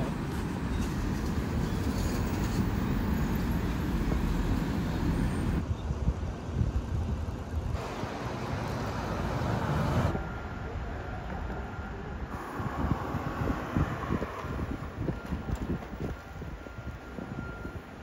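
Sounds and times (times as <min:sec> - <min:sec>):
street traffic noise: 0:00.0 - 0:18.0.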